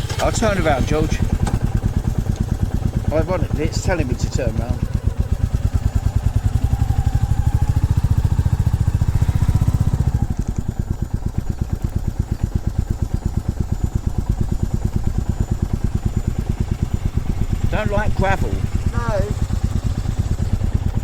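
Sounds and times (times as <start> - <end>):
motorcycle engine pulsing: 0.0 - 21.0.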